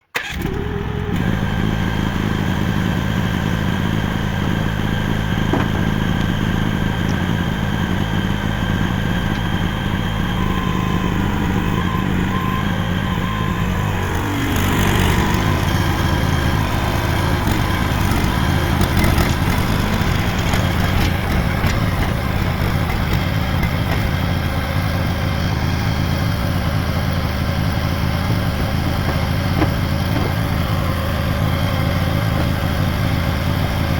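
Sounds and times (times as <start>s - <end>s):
small excavator engine running: 0.1s - 33.9s.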